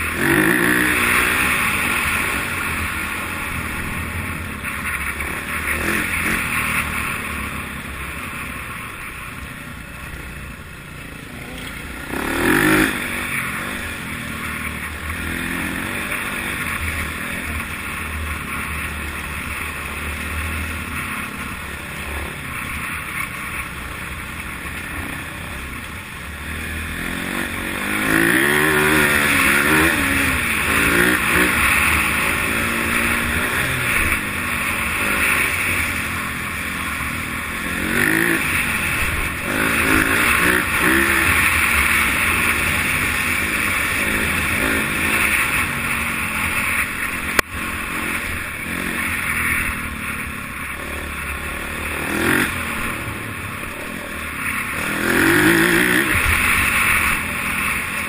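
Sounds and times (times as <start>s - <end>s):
dirt bike engine revving: 0.0s - 9.2s, 9.9s - 58.0s.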